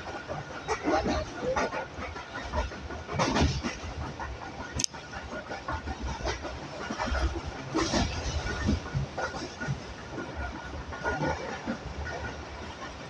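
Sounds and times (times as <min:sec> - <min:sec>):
train wheel rumble: 0:00.0 - 0:13.0.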